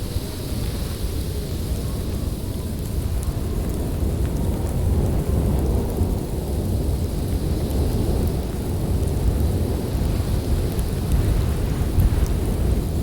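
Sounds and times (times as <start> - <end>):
storm wind rumbling: 0.0 - 13.0.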